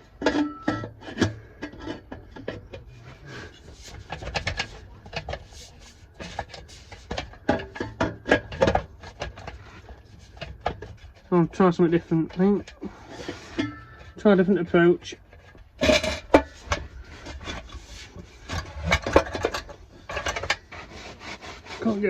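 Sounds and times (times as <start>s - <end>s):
metal exhaust parts knocking and scraping: 0.0s - 22.0s.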